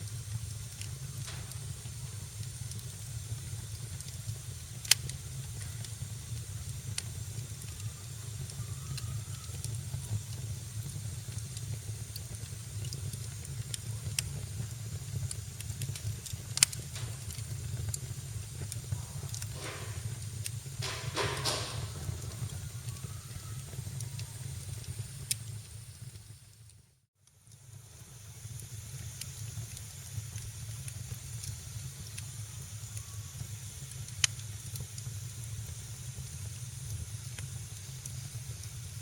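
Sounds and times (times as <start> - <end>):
loud pops from fire: 0.0 - 26.5, 27.7 - 39.0
fire crackling: 0.0 - 39.0
wood fire burning: 0.0 - 39.0.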